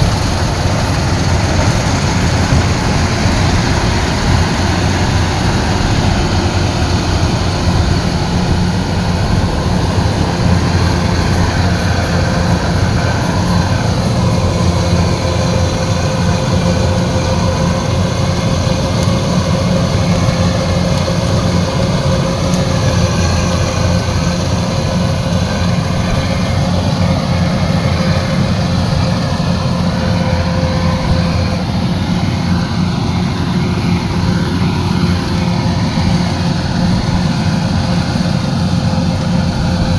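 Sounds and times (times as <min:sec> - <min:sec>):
diesel engine running: 0:00.0 - 0:39.9
steady whine: 0:00.0 - 0:39.9.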